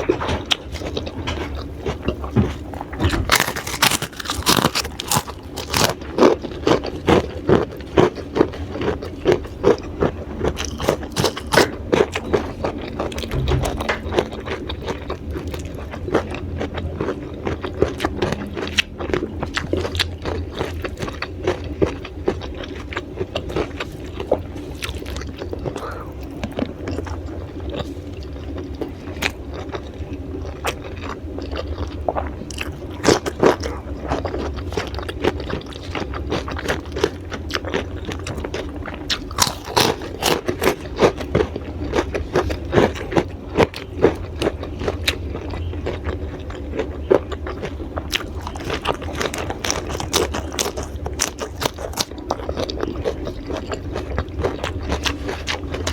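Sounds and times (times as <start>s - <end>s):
crunchy chewing of raw vegetables: 0.0s - 55.9s
steady low hum: 0.0s - 55.9s.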